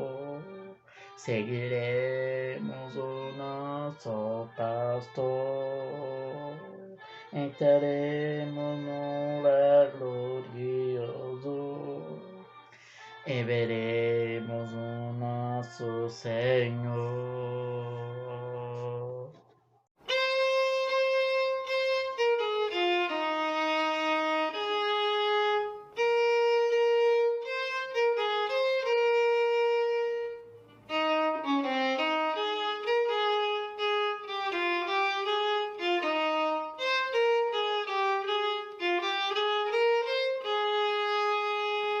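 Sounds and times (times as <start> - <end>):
solo instrument playing hymn melody: 0.0 - 19.3, 20.0 - 42.0.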